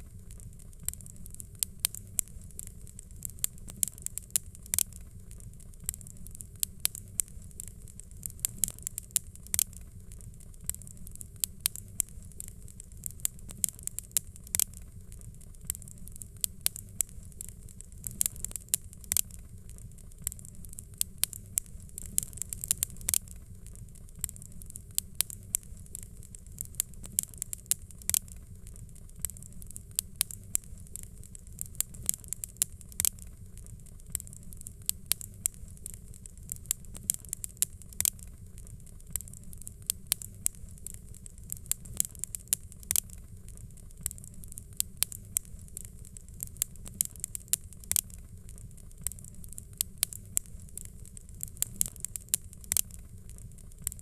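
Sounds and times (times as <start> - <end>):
fireplace fire crackling: 0.0 - 54.0
low fire rumble: 0.0 - 54.0.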